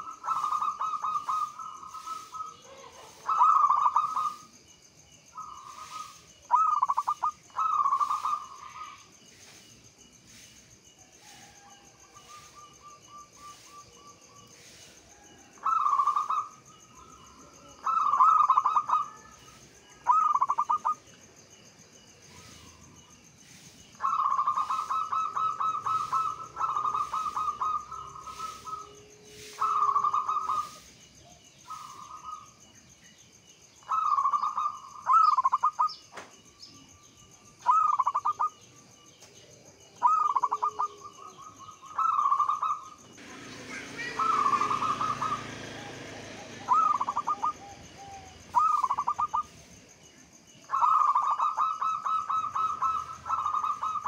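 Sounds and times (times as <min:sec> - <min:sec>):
dove cooing: 0:00.0 - 0:04.5, 0:05.4 - 0:09.1, 0:11.3 - 0:21.1, 0:24.0 - 0:32.6, 0:33.8 - 0:36.0, 0:37.6 - 0:38.6, 0:39.4 - 0:49.7, 0:50.6 - 0:54.0.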